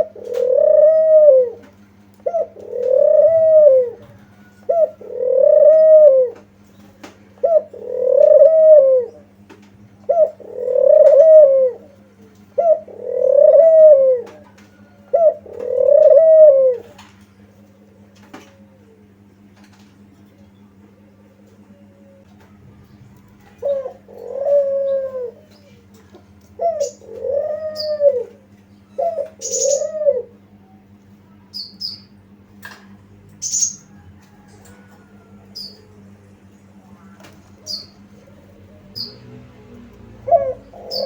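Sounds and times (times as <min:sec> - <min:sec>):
dove cooing: 0:00.0 - 0:41.0.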